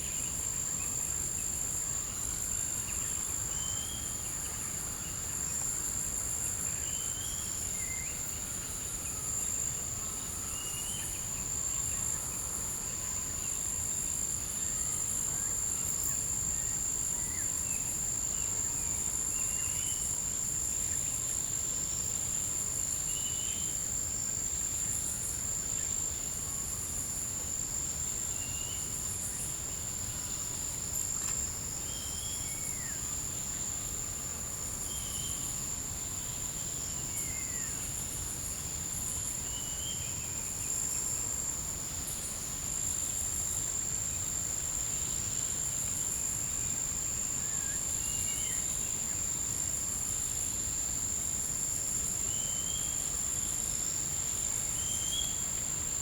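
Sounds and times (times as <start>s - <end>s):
insect high-pitched whine: 0.0s - 56.0s
insects trilling: 0.0s - 56.0s.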